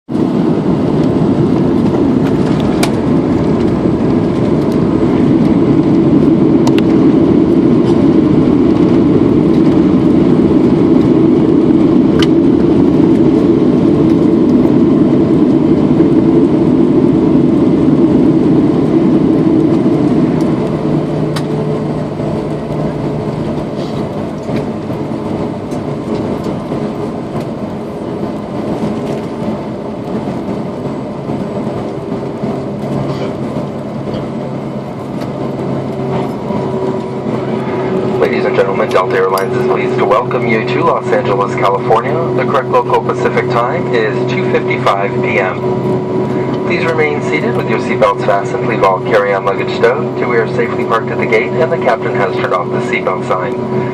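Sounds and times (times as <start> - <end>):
aircraft engines and rushing air: 0.0 - 53.9
low steady hum: 0.2 - 53.9.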